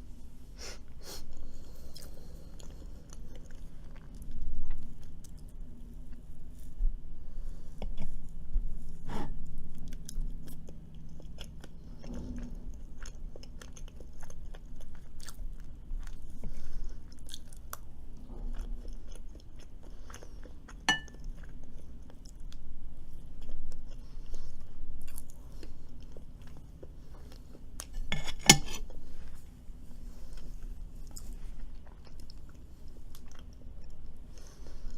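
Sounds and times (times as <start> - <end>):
person chewing crunchy food: 1.1 - 6.8, 7.6 - 34.9.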